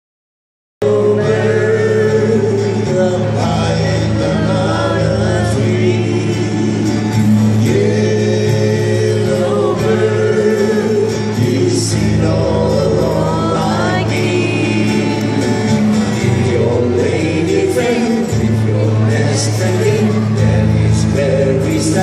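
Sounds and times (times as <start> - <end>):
group of voices singing: 0.8 - 22.0
instrumental accompaniment with bass: 0.8 - 22.0.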